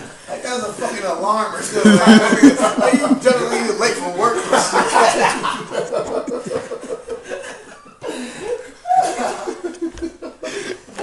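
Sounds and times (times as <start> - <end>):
people laughing: 1.6 - 11.0.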